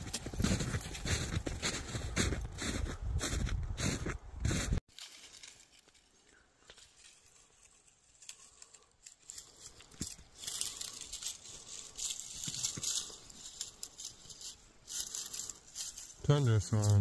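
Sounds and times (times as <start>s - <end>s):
crunching and rustling in snow: 0.0s - 17.0s.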